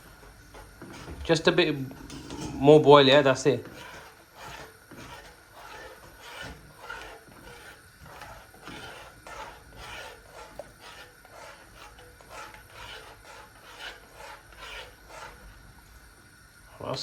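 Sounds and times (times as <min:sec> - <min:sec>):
spoon scraping a pan: 0:00.0 - 0:15.6.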